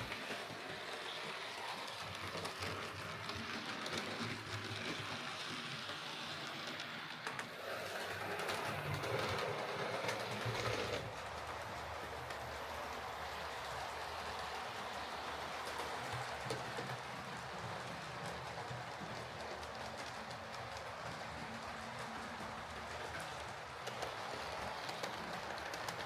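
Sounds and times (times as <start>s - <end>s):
model train running on track: 0.0s - 26.0s
wheels clicking on rails: 0.0s - 26.0s.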